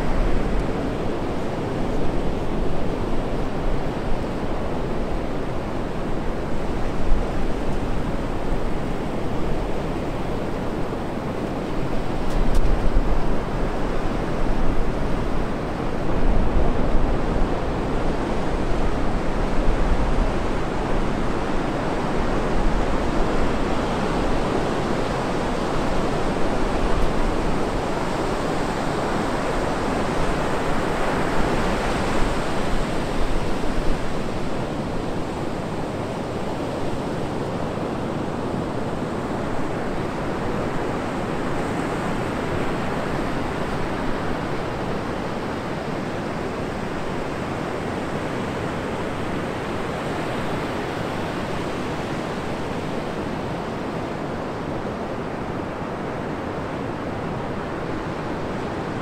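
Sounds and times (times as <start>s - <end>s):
surf waves breaking on beach: 0.0s - 59.0s.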